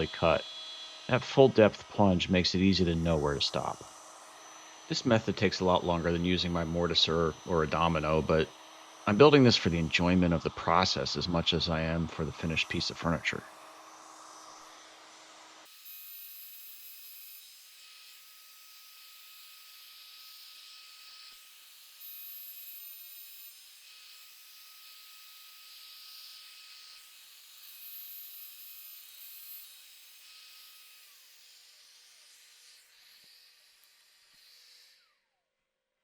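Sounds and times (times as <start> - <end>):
router whining: 0.0 - 35.6.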